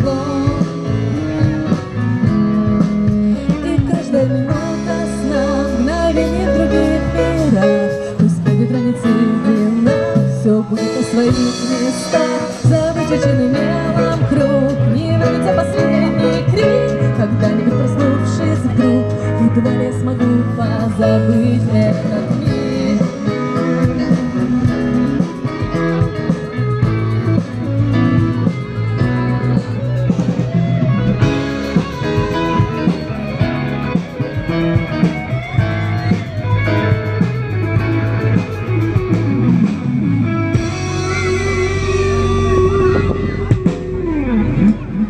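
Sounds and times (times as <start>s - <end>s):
bass guitar: 0.0s - 45.0s
drums: 0.0s - 45.0s
electric guitars: 0.0s - 45.0s.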